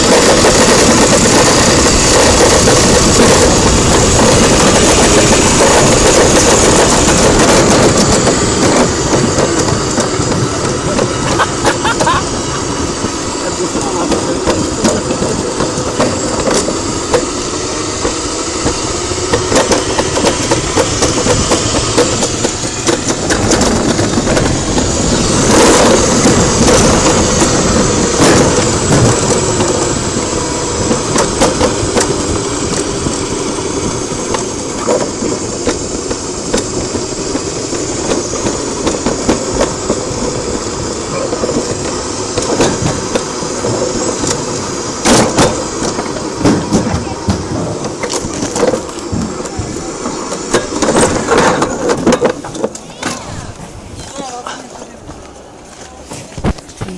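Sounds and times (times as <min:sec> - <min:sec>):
wheels rolling in metal channel: 0:00.0 - 0:56.9.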